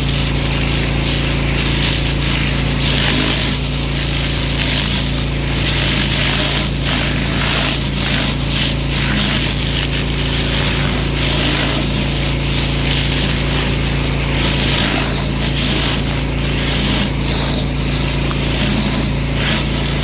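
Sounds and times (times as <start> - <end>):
pressure washer motor droning: 0.0 - 20.0
water jet hissing: 0.0 - 20.0.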